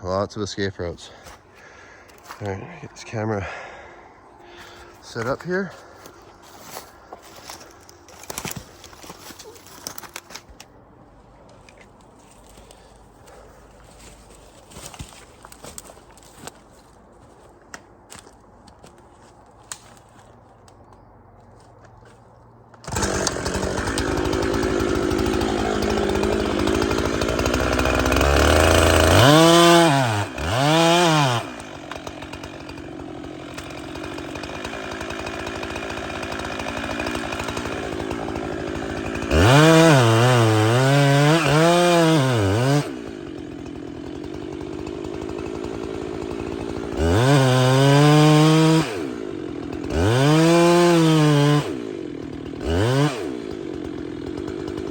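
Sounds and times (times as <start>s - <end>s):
chainsaw running and cutting: 0.4s - 10.7s, 11.5s - 19.0s, 22.8s - 54.9s.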